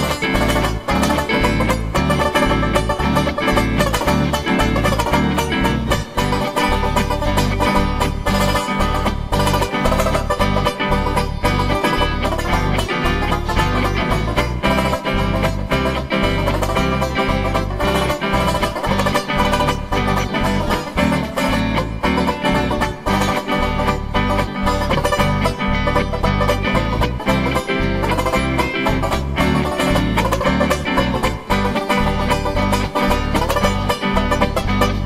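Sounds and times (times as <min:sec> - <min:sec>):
banjo picking rapid notes: 0:00.0 - 0:35.0
steady bass line: 0:00.0 - 0:35.0.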